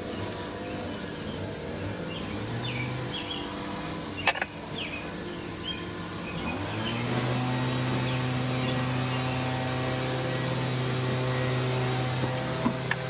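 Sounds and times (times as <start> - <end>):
bird chirps: 0.0 - 11.6
high insect buzz: 0.0 - 13.0.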